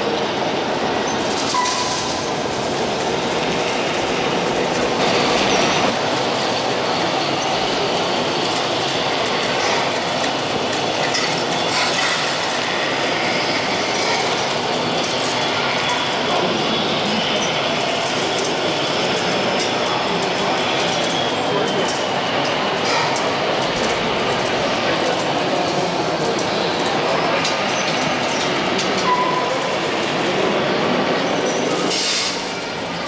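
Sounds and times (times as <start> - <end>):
small motors whirring and clattering: 0.6 - 33.0.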